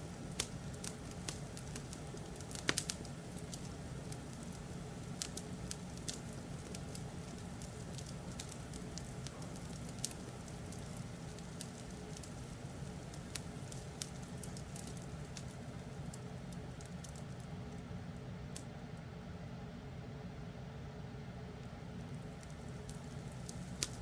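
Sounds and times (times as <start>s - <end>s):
fireplace crackling: 0.0s - 24.0s.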